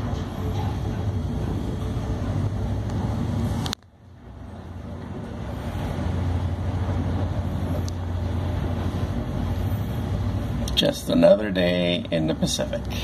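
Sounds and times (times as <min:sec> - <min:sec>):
boat engines droning: 0:00.0 - 0:13.0
wind: 0:00.0 - 0:13.0.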